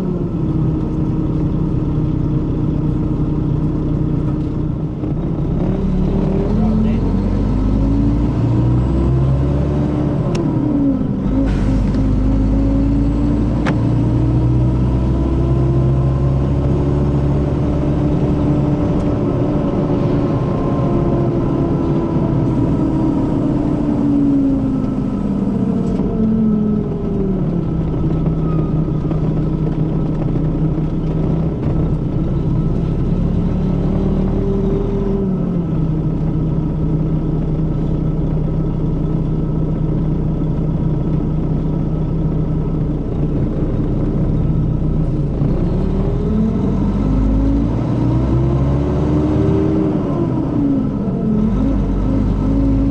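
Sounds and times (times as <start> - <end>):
coach diesel engine running: 0.0 - 52.9.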